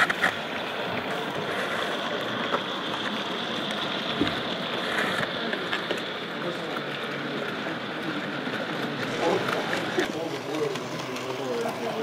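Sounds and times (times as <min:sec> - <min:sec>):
faint clicks of train: 0:00.0 - 0:12.0
model train whirring rumble: 0:00.0 - 0:12.0.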